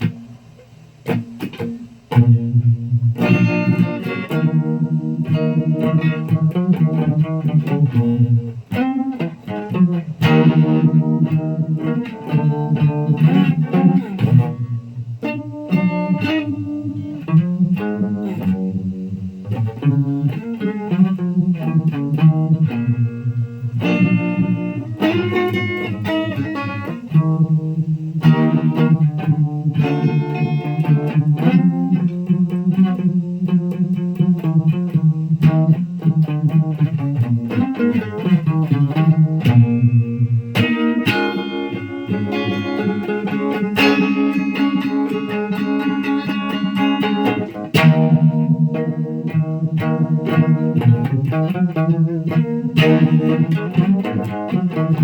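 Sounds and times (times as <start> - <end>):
electric guitar with effects: 0.0 - 55.0.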